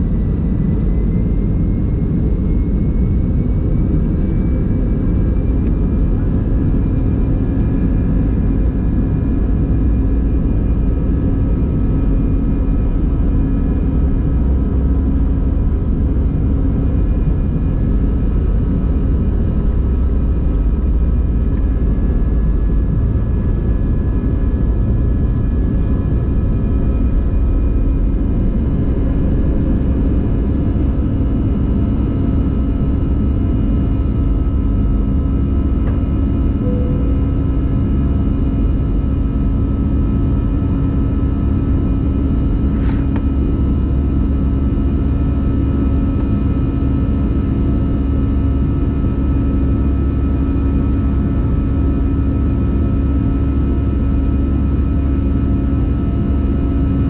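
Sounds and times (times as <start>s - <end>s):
high fan tones: 0.0s - 57.0s
jet engines rumbling at takeoff: 0.0s - 57.0s.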